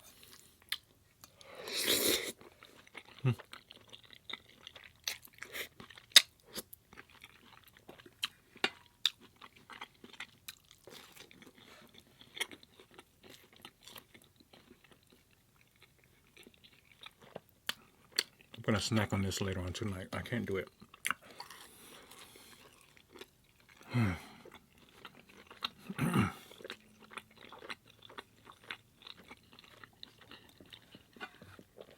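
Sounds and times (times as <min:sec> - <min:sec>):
chewing and biting: 0:02.4 - 0:18.5, 0:20.7 - 0:31.9.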